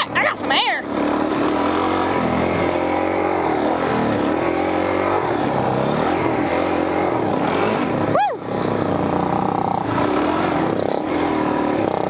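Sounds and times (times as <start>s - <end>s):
motorcycle engine under load: 0.0s - 12.0s.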